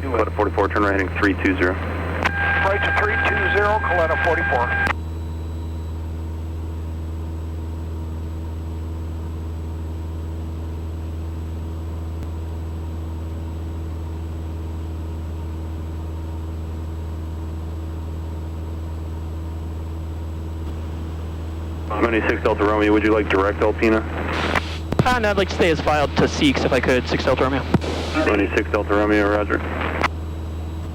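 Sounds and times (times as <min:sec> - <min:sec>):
aircraft engine and propeller drone: 0:00.0 - 0:30.9.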